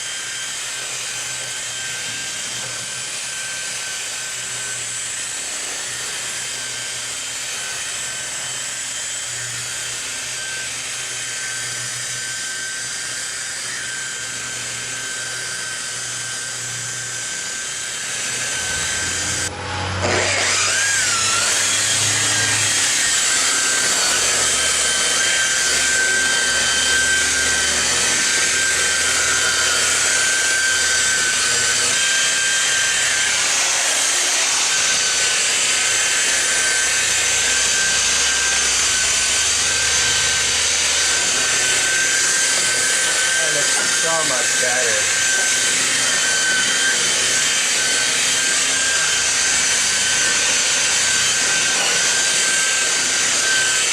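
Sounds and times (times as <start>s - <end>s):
electric polisher whining: 0.0s - 53.9s.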